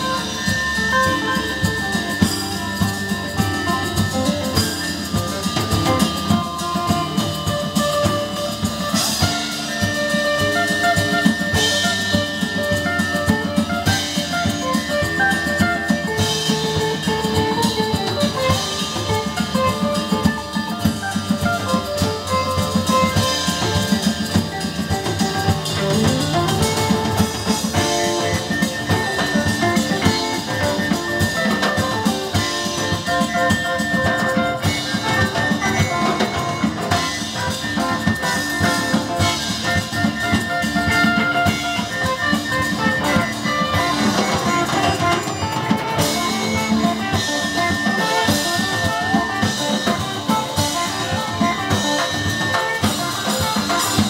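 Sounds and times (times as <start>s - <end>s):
drum kit beat: 0.0s - 54.0s
guitar: 0.0s - 54.0s
keyboard: 0.0s - 54.0s.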